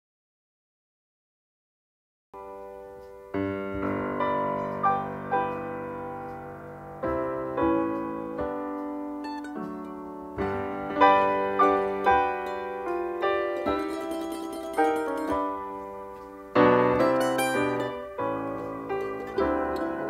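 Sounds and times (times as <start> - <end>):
slow piano music: 2.4 - 20.0.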